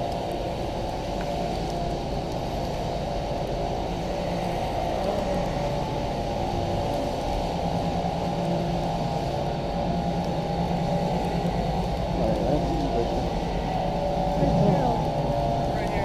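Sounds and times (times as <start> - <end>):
vehicle road noise rumble: 0.0 - 16.0.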